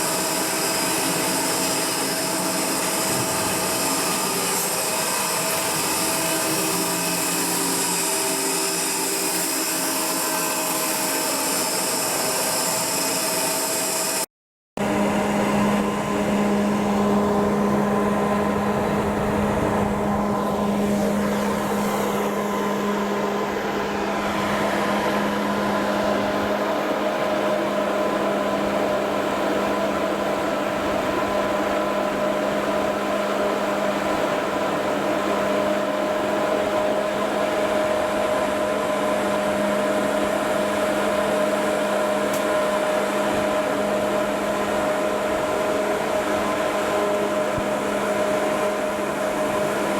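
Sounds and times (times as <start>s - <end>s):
machine hum with low drone: 0.0s - 14.1s, 14.8s - 49.9s
ship machinery hum: 0.0s - 14.2s, 14.8s - 49.9s.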